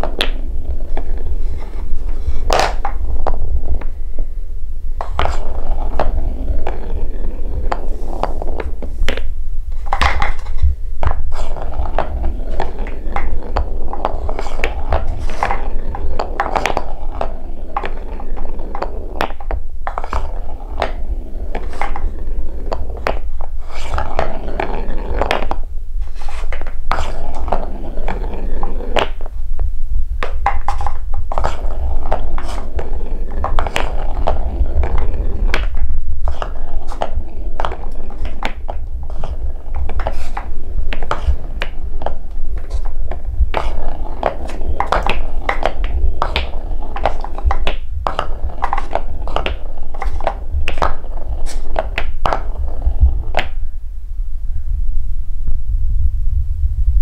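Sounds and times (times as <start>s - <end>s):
wooden balls clacking: 0.0s - 4.3s, 4.9s - 53.7s
wooden balls rolling rumble: 0.0s - 57.0s.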